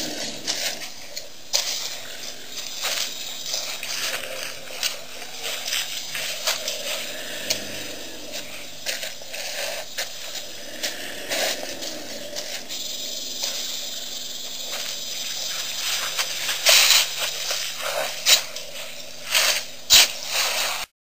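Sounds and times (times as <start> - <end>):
elephant brushing and scraping: 0.0 - 20.9
microphone hiss: 0.0 - 20.9.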